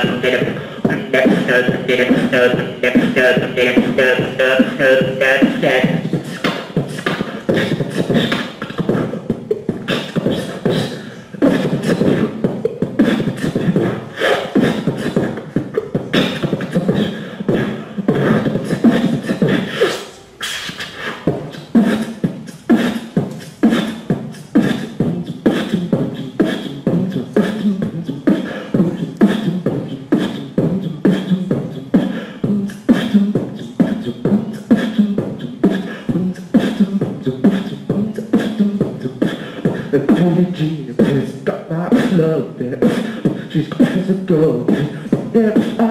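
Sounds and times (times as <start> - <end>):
beatboxing into microphone: 0.0 - 45.9.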